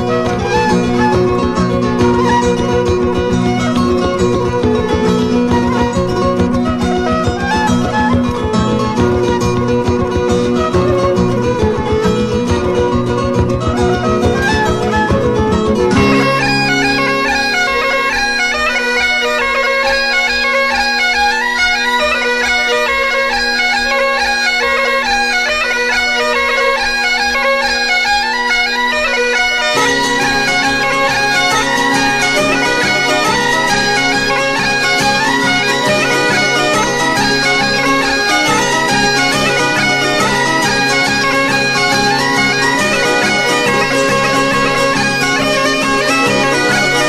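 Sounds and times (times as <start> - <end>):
bagpipe music: 0.0 - 47.0.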